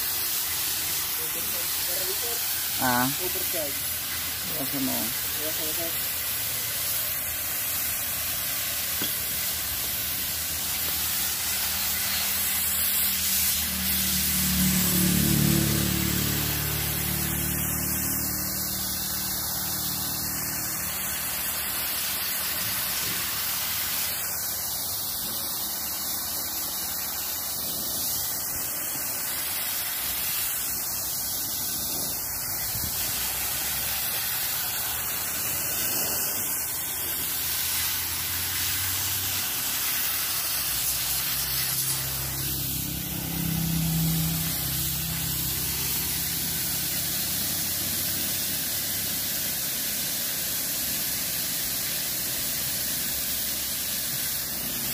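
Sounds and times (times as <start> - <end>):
hose water jet spraying: 0.0 - 54.9.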